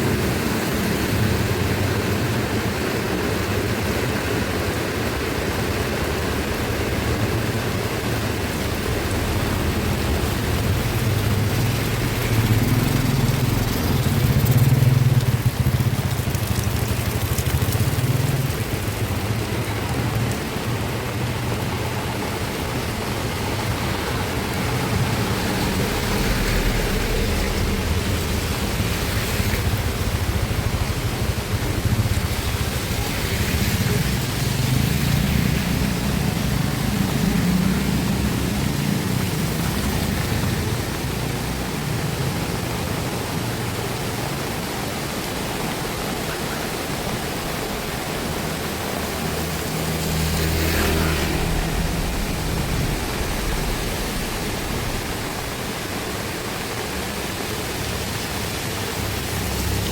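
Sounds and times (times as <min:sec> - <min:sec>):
heavy rain: 0:00.0 - 0:59.9
low wind rumble: 0:00.0 - 0:59.9.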